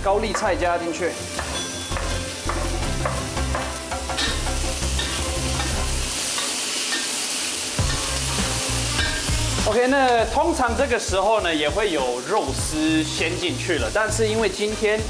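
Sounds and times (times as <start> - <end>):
vegetables sizzling in pan: 0.0 - 15.0.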